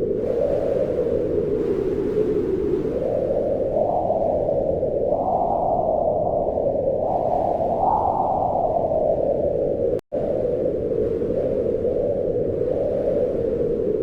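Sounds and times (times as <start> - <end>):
wind blowing in gusts: 0.0 - 14.0.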